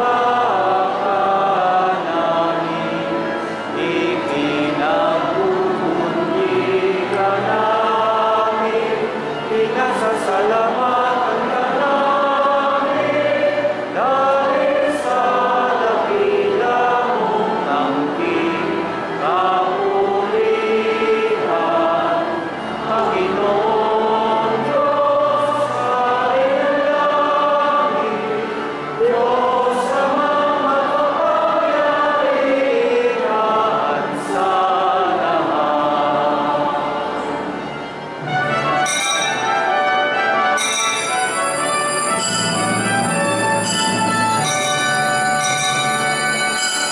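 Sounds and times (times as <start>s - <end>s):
church choir singing a hymn: 0.0s - 46.9s.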